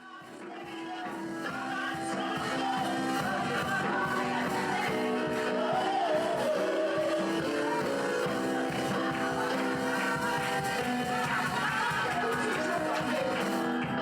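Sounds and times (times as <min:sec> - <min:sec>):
worship band music: 0:00.0 - 0:14.0.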